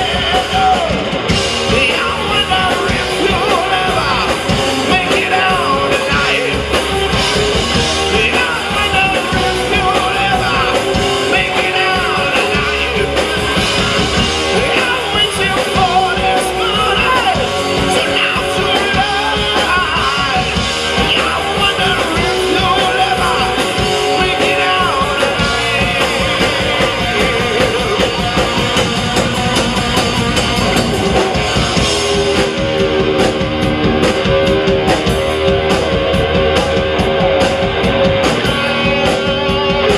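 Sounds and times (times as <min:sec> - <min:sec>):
sung and yelled vocals: 0:00.0 - 0:33.3, 0:37.4 - 0:39.9
live rock band: 0:00.0 - 0:39.9.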